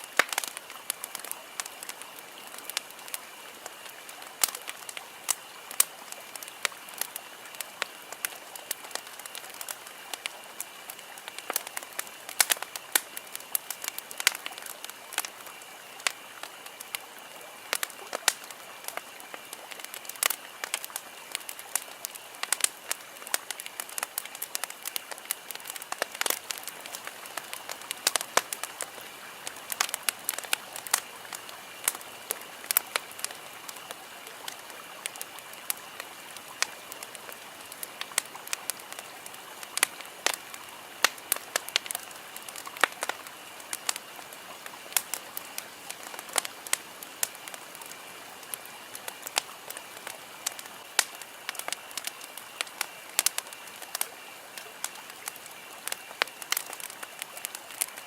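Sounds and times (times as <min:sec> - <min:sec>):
campfire crackling and popping: 0:00.0 - 0:58.0
steady fire hiss: 0:00.0 - 0:58.0.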